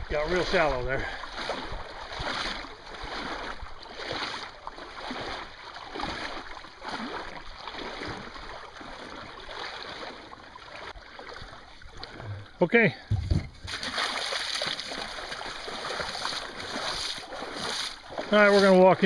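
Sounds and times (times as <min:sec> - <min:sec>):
water sloshing around a boat: 0:00.0 - 0:19.0.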